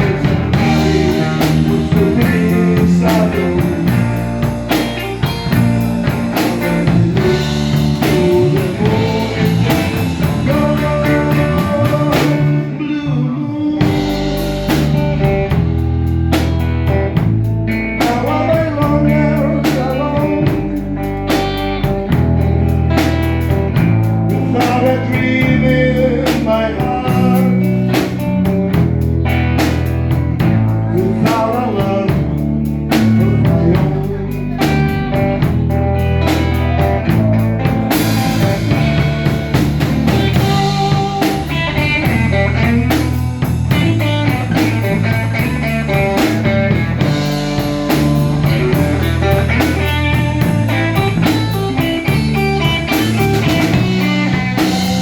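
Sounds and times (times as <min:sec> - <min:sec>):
drum kit beat: 0:00.0 - 0:55.0
electric bass line: 0:00.0 - 0:55.0
electric guitar lines: 0:00.0 - 0:55.0.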